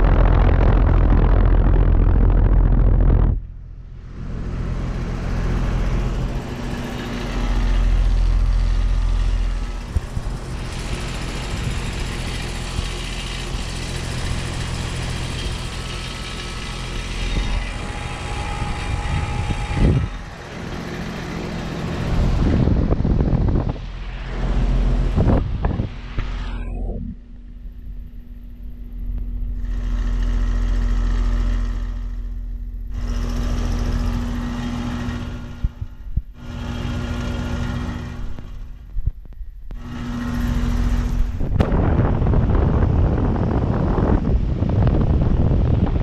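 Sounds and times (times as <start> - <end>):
fan air rushing: 0.0 - 46.0
heat pump hum: 0.0 - 46.0
low rumbles: 0.0 - 46.0.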